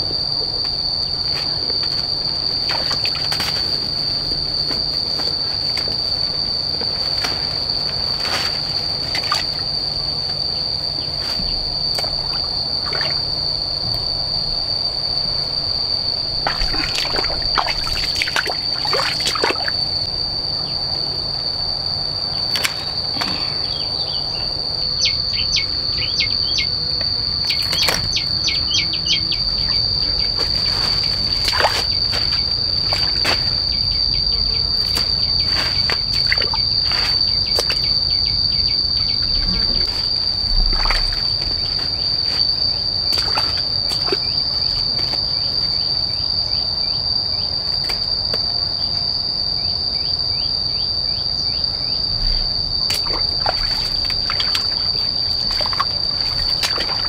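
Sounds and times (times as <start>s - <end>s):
high-pitched insect drone: 0.0s - 57.0s
insect rapid chirping: 0.0s - 57.0s.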